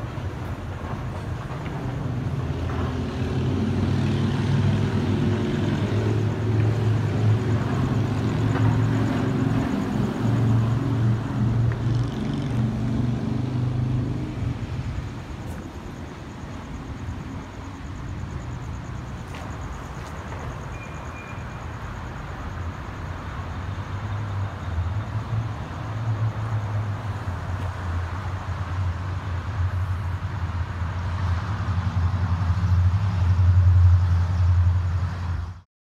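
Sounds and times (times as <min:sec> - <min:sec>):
passing vehicle rumble: 0:00.0 - 0:35.6.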